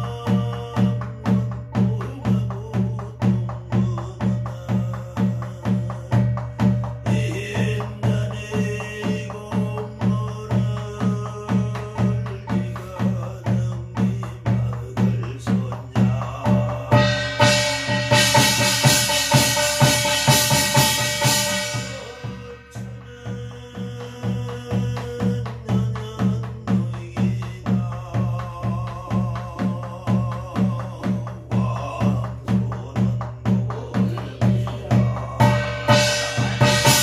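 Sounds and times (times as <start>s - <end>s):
barrel drum beating: 0.0s - 37.0s.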